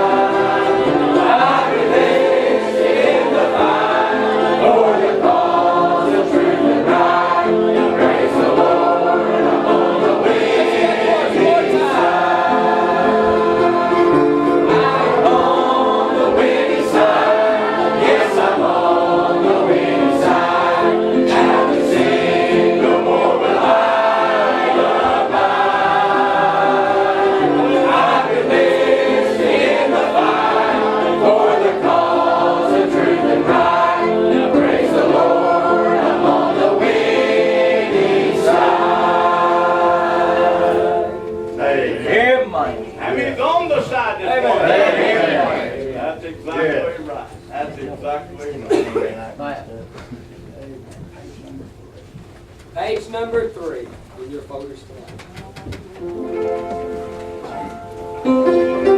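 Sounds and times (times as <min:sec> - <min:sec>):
church choir singing gospel: 0:00.0 - 0:50.4.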